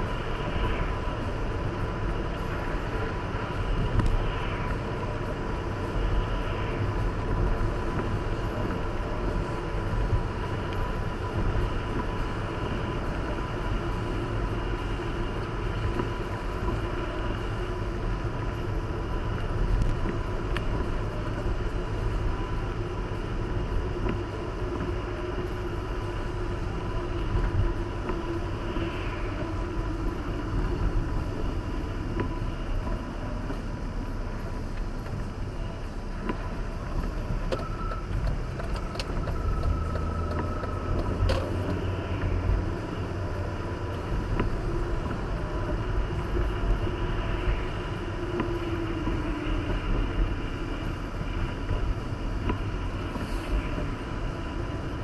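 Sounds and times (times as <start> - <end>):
car engine and tyre rumble: 0.0 - 55.0
tyre hiss on wet road: 0.0 - 55.0.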